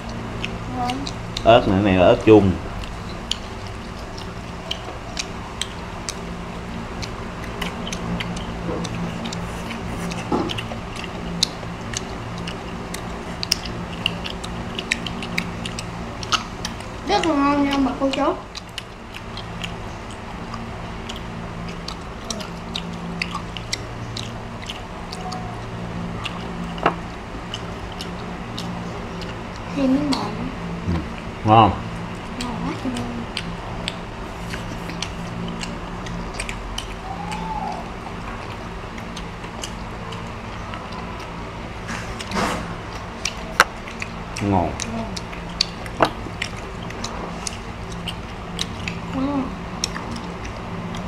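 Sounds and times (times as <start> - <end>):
people chewing and lip smacking: 0.0 - 51.0
steady low hum: 0.0 - 51.0.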